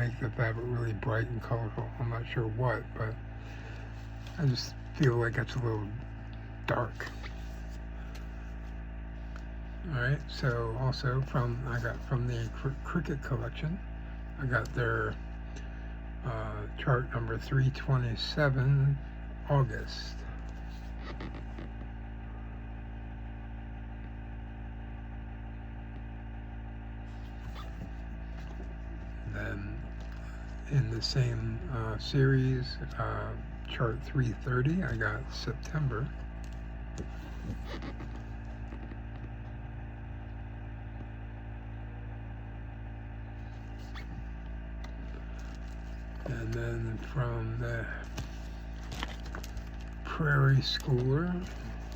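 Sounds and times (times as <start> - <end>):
electrical hum: 0.0 - 51.9.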